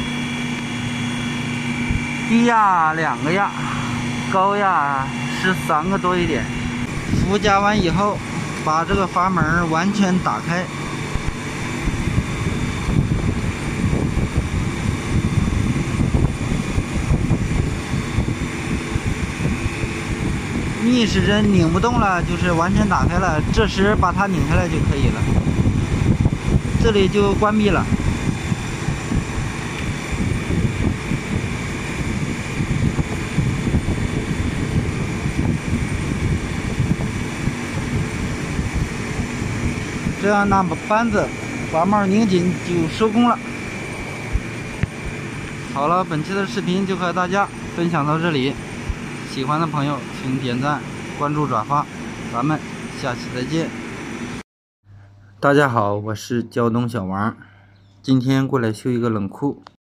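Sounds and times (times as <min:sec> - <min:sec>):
faint steady whine: 0:00.0 - 0:56.4
fan air gusting on microphone: 0:00.0 - 0:59.6
refrigeration unit running: 0:00.0 - 0:59.6.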